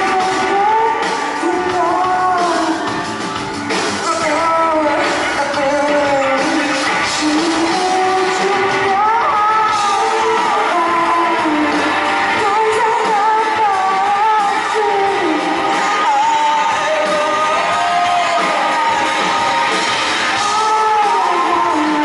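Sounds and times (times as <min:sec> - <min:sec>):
woman singing: 0:00.0 - 0:03.0, 0:04.0 - 0:22.0
electric guitar: 0:00.0 - 0:22.0.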